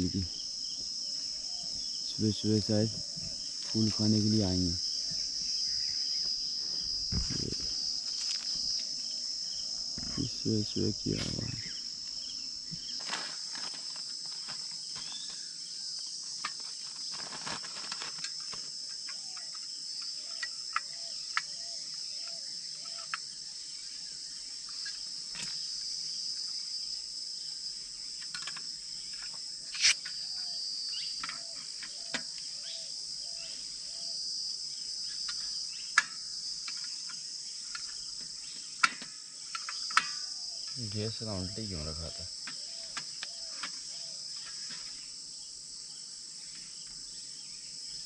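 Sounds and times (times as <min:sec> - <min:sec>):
insects chorus: 0:00.0 - 0:48.0.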